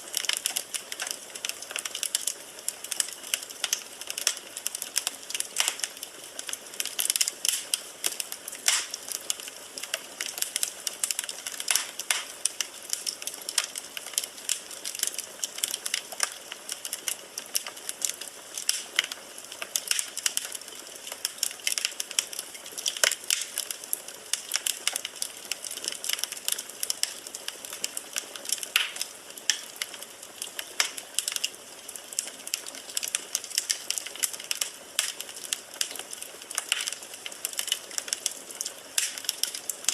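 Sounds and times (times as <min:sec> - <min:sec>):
firewood crackling: 0:00.0 - 0:39.9
soft steady hiss: 0:00.0 - 0:39.9.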